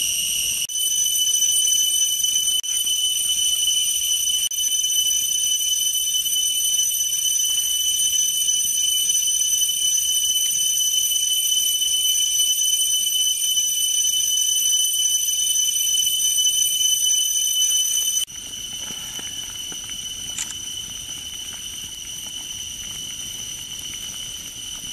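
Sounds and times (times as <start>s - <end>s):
high-pitched insect drone: 0.0s - 5.6s, 6.2s - 24.9s.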